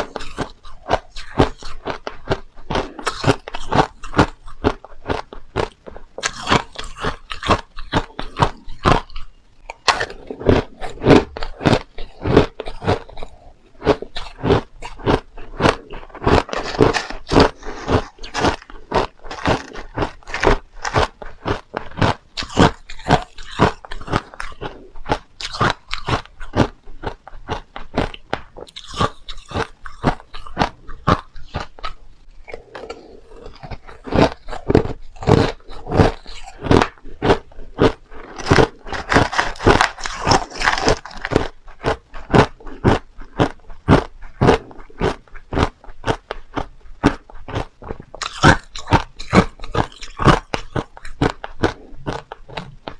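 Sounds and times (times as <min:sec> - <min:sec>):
ice crunching being chewed: 0:00.0 - 0:52.9.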